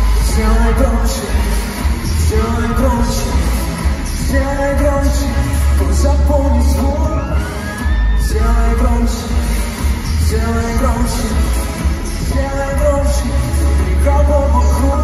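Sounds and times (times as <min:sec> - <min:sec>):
live pop song with male singer: 0:00.0 - 0:15.0.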